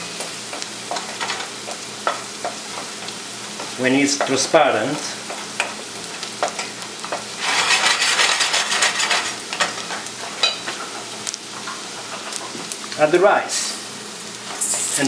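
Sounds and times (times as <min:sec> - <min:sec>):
onion sizzling in a pot: 0:00.0 - 0:15.0.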